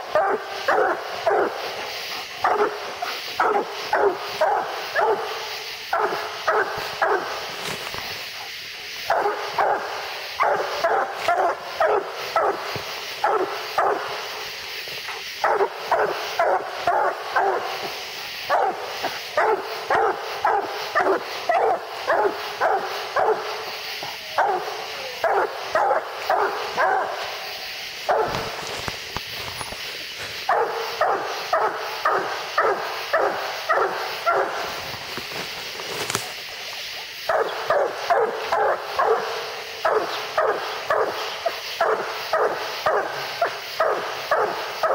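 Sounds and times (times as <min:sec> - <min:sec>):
dog barking: 0:00.0 - 0:01.7, 0:02.4 - 0:07.6, 0:09.0 - 0:14.3, 0:15.4 - 0:27.4, 0:28.0 - 0:28.8, 0:30.4 - 0:35.0, 0:37.3 - 0:44.9
steady high hiss: 0:00.0 - 0:44.9.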